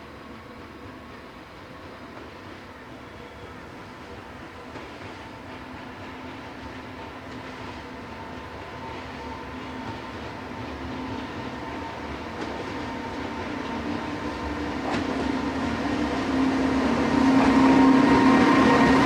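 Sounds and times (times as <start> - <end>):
freight train running: 0.0 - 19.0.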